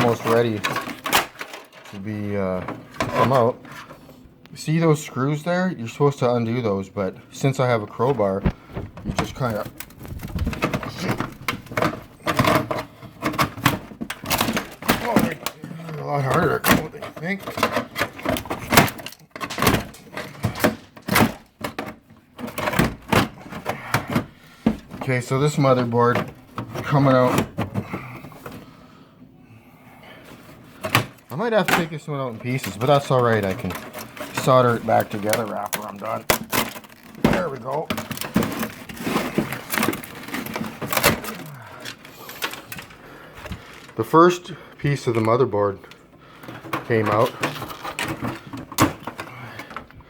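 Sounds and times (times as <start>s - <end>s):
scraping and handling: 0.0s - 4.5s, 7.4s - 29.0s, 30.0s - 50.0s.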